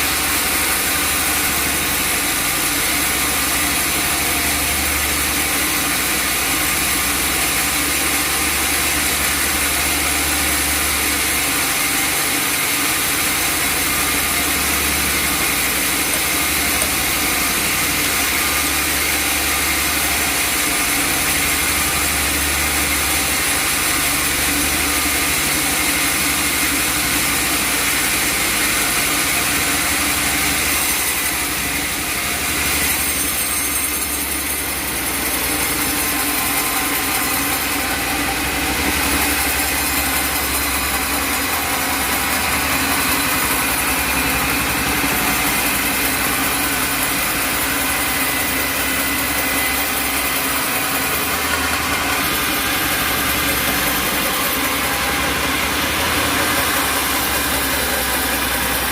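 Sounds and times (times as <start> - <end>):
sawmill machinery drone: 0.0 - 58.9
steady high machine tones: 0.1 - 58.9.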